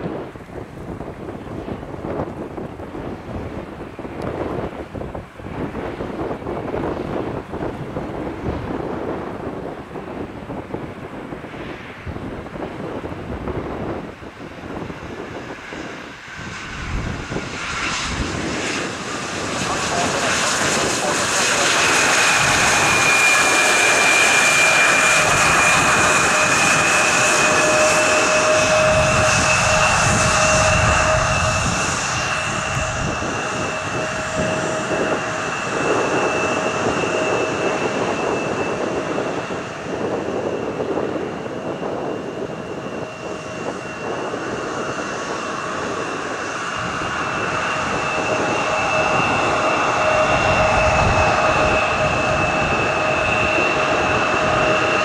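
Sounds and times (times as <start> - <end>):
jet engine rushing roar: 0.0 - 55.0
jet engines whining: 0.0 - 55.0.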